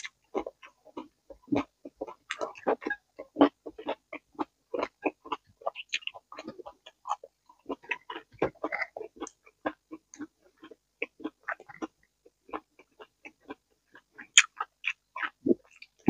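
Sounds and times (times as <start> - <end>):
chewing raw vegetables: 0.0 - 16.0
mouth clicks: 0.0 - 16.0.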